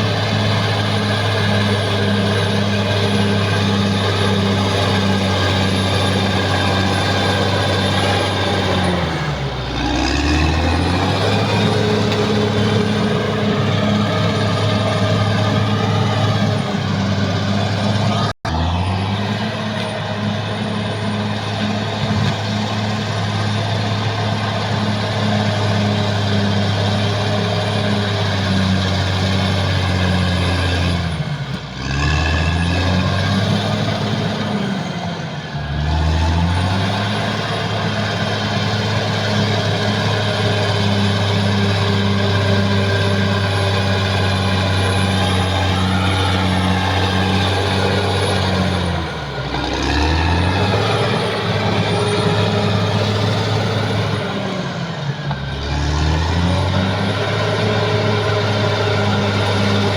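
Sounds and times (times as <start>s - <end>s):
bulldozer diesel engine running hard: 0.0s - 59.9s.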